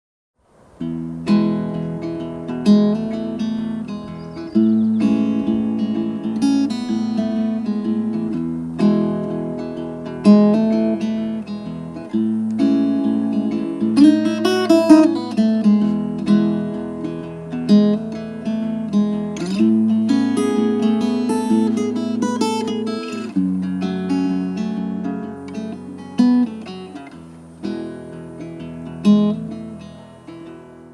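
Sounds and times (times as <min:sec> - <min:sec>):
acoustic guitar playing: 0:00.7 - 0:30.9.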